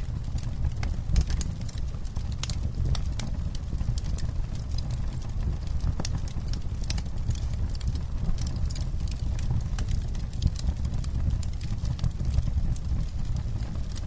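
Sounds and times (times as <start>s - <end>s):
campfire crackling: 0.0s - 14.0s
fire low rumble: 0.0s - 14.0s.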